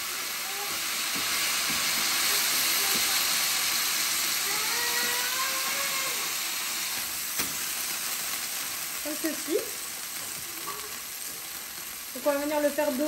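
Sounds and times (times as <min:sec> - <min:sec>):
meat sizzling on a hot plate: 0:00.0 - 0:13.0.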